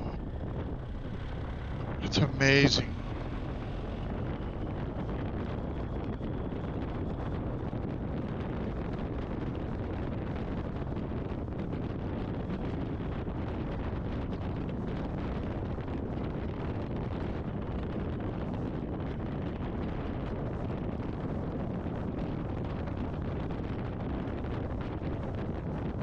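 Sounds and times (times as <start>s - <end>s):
road and engine noise: 0.0s - 26.0s
wind rushing on microphone: 0.0s - 26.0s.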